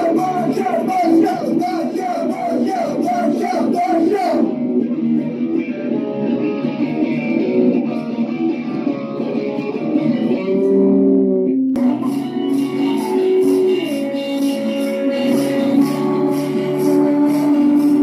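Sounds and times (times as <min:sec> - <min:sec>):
guitar band music: 0:00.0 - 0:18.0.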